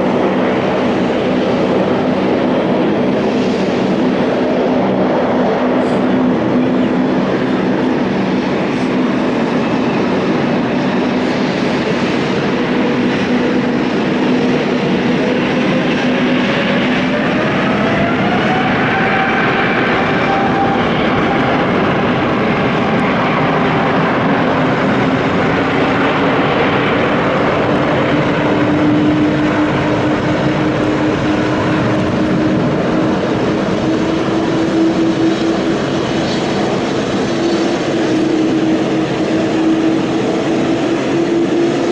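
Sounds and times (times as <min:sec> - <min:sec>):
jet engines roaring on takeoff: 0:00.0 - 0:41.9.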